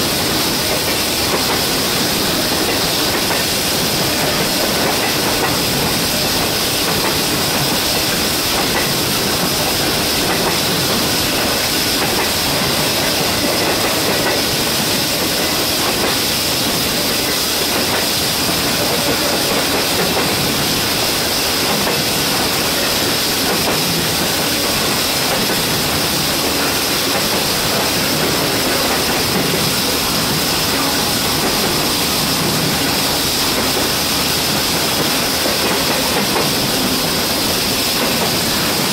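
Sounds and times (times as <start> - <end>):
freight train rolling past: 0.0 - 38.9
loud air leak hiss: 0.0 - 38.9.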